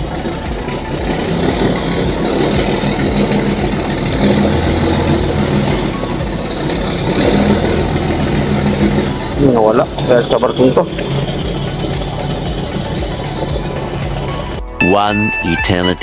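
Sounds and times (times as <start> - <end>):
motorboat engine passing: 0.0 - 14.8.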